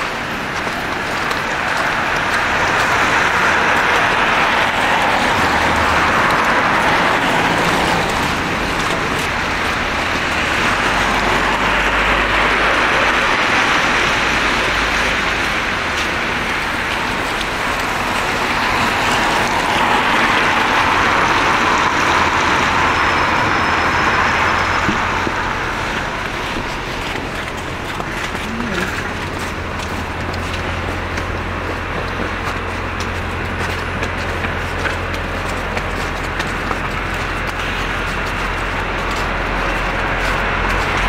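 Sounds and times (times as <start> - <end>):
low engine rumble: 0.0 - 41.0
tyres hissing on wet road: 0.0 - 41.0.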